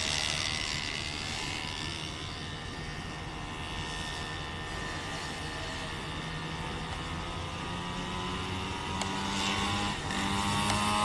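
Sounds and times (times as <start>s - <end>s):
small engine buzzing at high revs: 0.0s - 11.0s.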